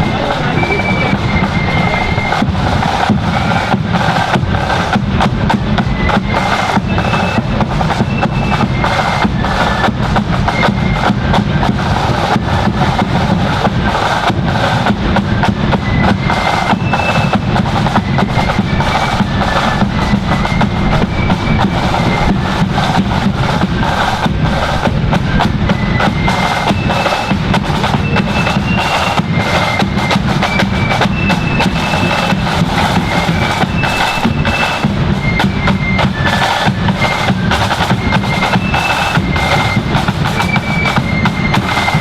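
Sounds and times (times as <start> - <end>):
high flute melody: 0.0 - 4.2, 5.6 - 12.2, 15.7 - 42.0
bass drum beats: 0.0 - 41.5.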